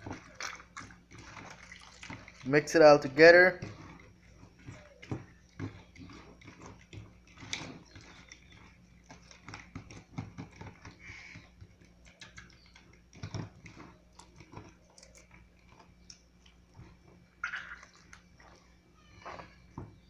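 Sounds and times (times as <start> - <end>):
hand squelching wet mixture: 0.0 - 20.0.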